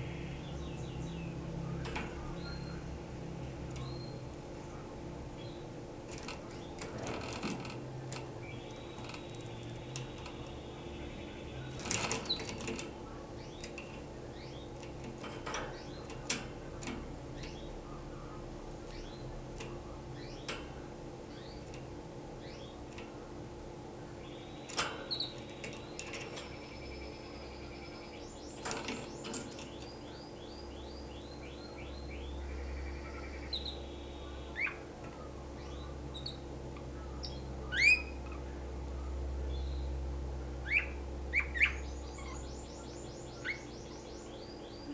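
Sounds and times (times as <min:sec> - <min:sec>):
canary chirping: 0:00.0 - 0:23.1, 0:24.0 - 0:38.5, 0:40.6 - 0:44.9
steady low hum: 0:00.0 - 0:44.9.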